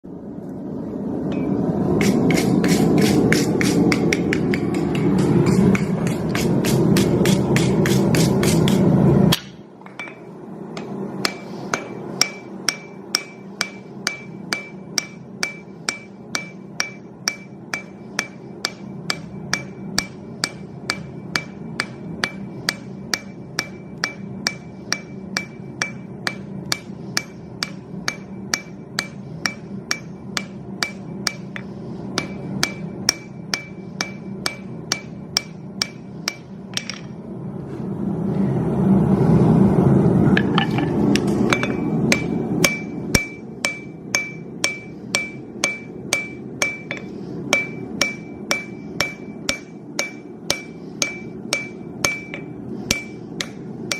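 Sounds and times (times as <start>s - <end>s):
hammer striking steel on anvil: 1.3s - 37.2s, 40.4s - 53.9s.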